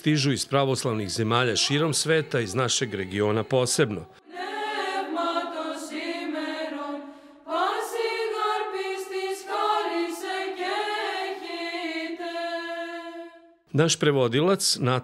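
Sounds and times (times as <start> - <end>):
church chant on held notes: 0.1 - 13.6.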